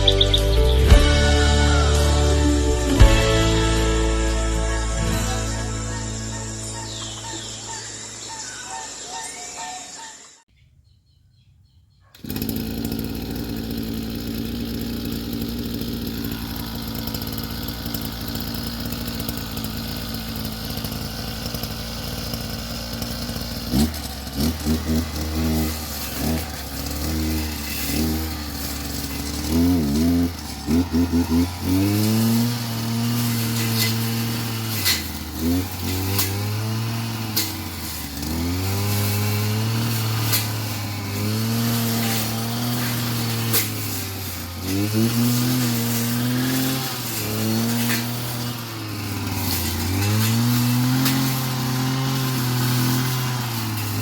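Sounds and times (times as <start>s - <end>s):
small petrol engine revving: 0.0s - 10.3s, 12.1s - 54.0s.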